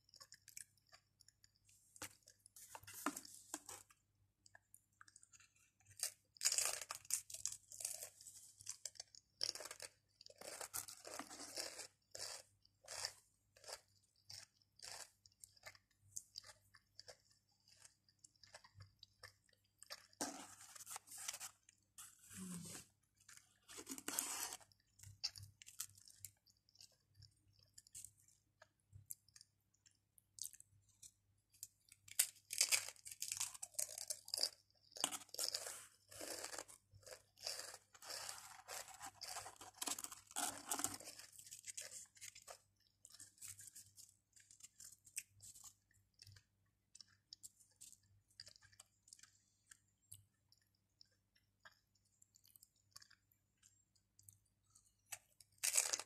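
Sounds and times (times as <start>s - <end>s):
crisps crunching while chewed: 0.0s - 56.0s.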